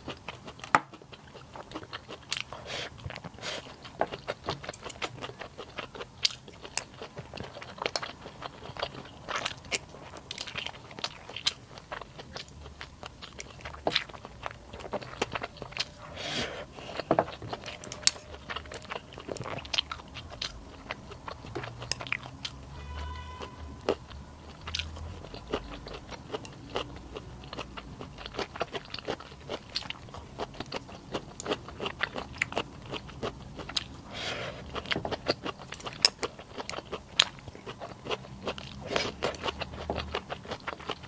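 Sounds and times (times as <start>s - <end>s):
person chewing: 0.0s - 41.0s.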